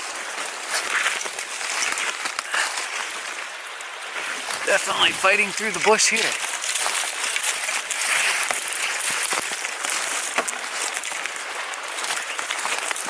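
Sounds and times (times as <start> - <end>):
brush rustling and snapping: 0.4 - 3.4, 5.5 - 13.0.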